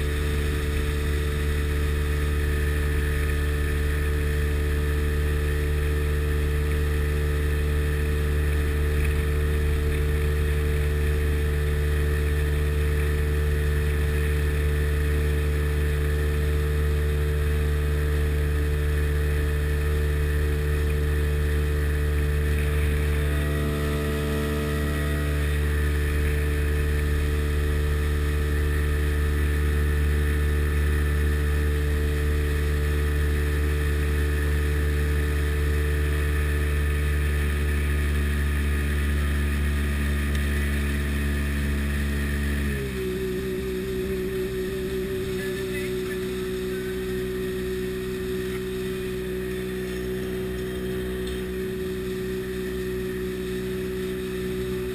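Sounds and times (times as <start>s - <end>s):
jet boat engine running: 0.0s - 54.9s.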